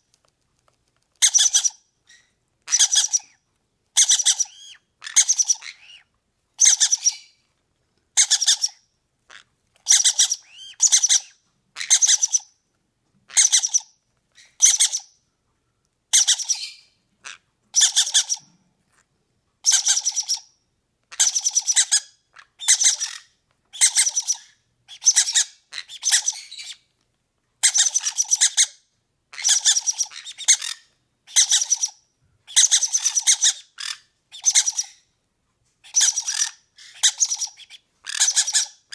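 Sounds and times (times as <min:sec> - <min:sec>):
parrot chicks begging calls: 0:01.2 - 0:03.4, 0:04.0 - 0:07.4, 0:08.2 - 0:12.6, 0:13.3 - 0:15.2, 0:16.1 - 0:18.6, 0:19.6 - 0:26.9, 0:27.6 - 0:35.1, 0:35.8 - 0:38.9.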